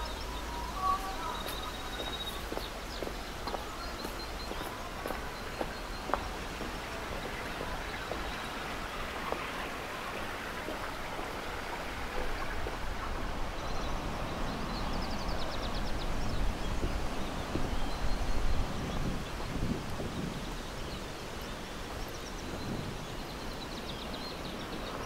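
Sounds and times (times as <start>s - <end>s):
steady rush of noise: 0.0s - 25.0s.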